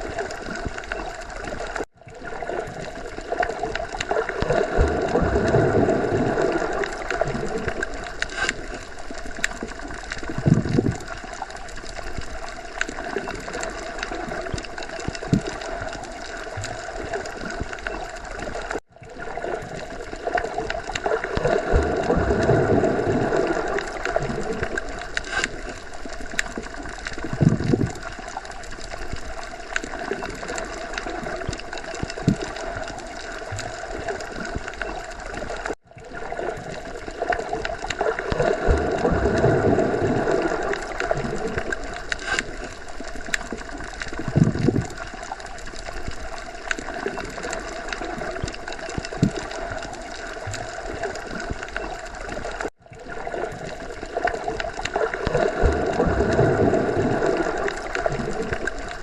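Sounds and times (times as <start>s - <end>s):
muffled underwater water wash: 0.0s - 59.0s.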